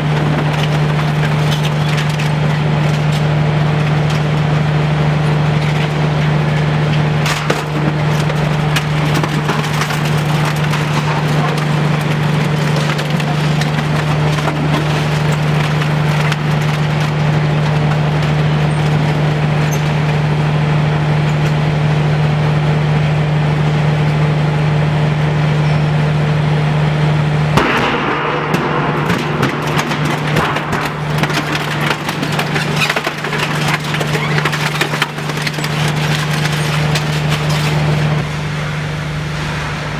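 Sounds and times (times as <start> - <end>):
shredder crunching material: 0.0 - 21.7, 27.6 - 38.3
shredder drive hum: 0.0 - 39.9.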